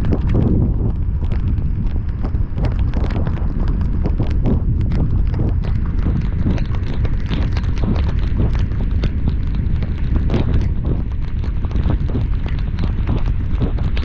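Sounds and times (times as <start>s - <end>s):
rain drops hitting car: 0.0s - 14.0s
wind and road noise: 0.0s - 14.0s.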